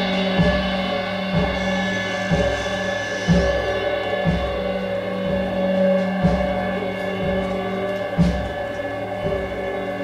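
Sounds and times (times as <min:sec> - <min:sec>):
low pitched percussion thuds: 0:00.0 - 0:10.0
steady ringing high tones: 0:00.0 - 0:10.0.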